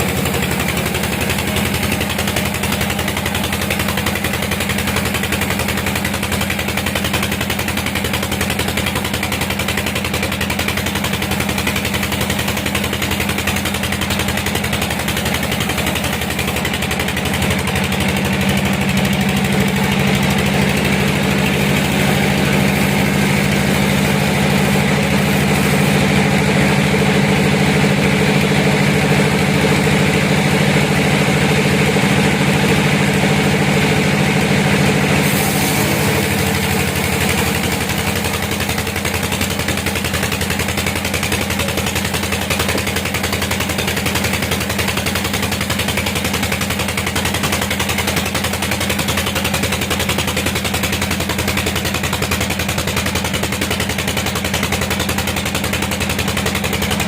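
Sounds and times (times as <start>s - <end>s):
sawmill machinery hum pulsing: 0.0s - 57.0s.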